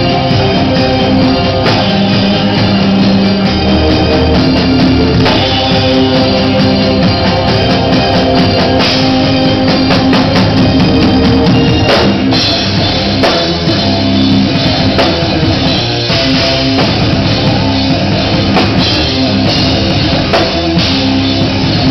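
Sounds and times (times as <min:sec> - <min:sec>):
drum kit pounding: 0:00.0 - 0:21.9
metal band playing live: 0:00.0 - 0:21.9.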